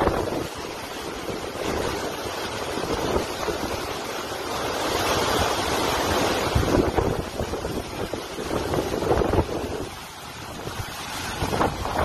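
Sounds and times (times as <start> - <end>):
strong wind rushing: 0.0 - 12.0
wind buffeting microphone: 0.0 - 12.0.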